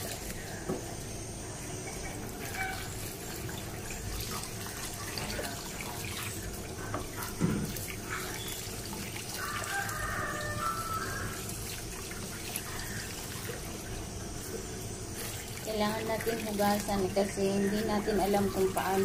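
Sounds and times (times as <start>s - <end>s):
tap water splashing in sink: 2.4s - 14.0s, 15.2s - 19.0s.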